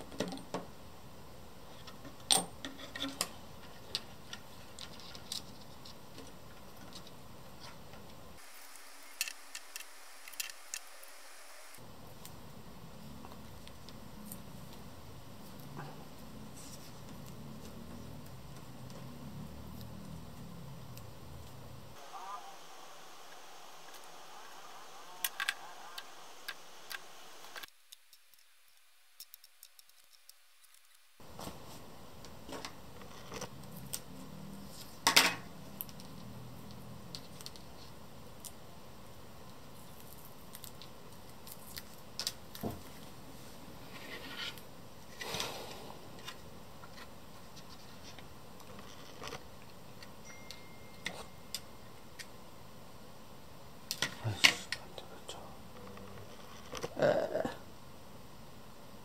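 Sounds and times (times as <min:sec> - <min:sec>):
low steady hiss: 0:00.0 - 0:59.0.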